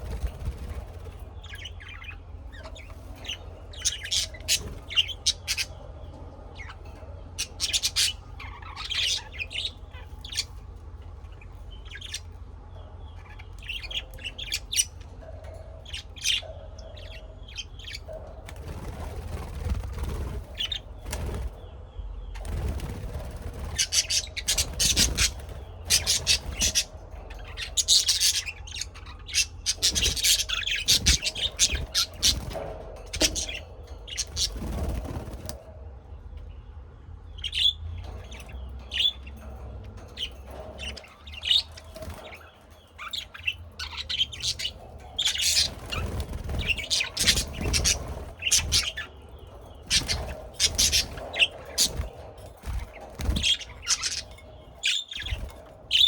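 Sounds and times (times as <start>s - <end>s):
birds chirping: 0.0s - 56.0s
steady low hum: 0.0s - 56.0s.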